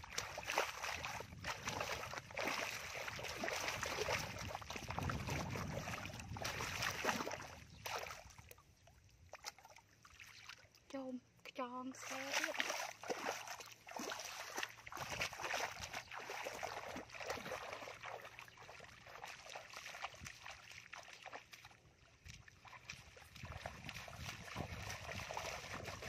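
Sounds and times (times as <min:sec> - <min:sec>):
feet splashing in muddy water: 0:00.0 - 0:10.9, 0:11.9 - 0:26.0.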